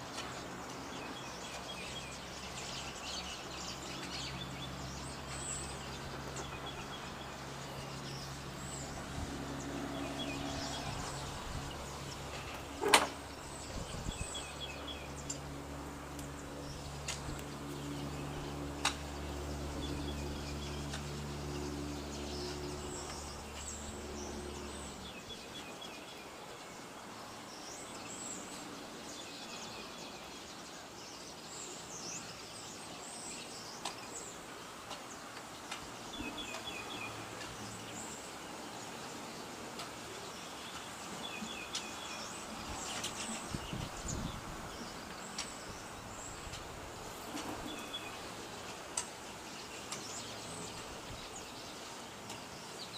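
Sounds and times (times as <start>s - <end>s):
birds chirping with trills: 0.0s - 52.9s.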